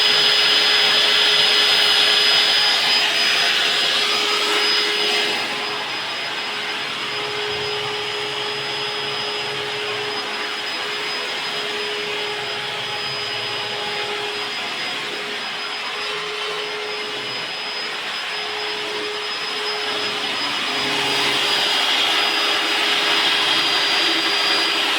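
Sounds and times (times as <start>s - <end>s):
core drill cutting concrete: 0.0s - 24.9s.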